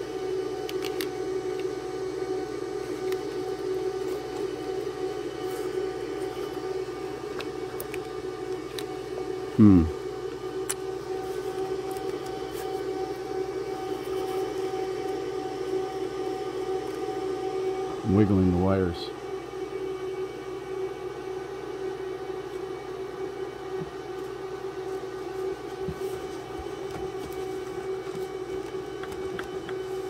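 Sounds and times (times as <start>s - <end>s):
steady mechanical whine: 0.0s - 30.0s.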